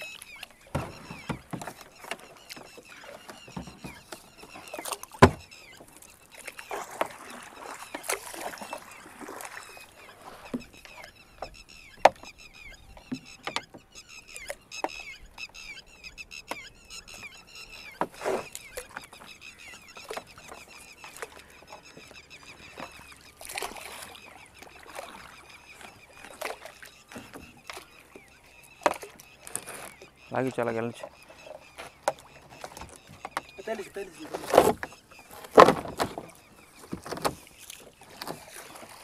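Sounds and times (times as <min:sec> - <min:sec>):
water splashing: 0:00.0 - 0:15.2, 0:17.5 - 0:39.0
wooden knocks from boat: 0:00.0 - 0:15.5, 0:16.4 - 0:39.0
high chirping birds: 0:00.0 - 0:39.0.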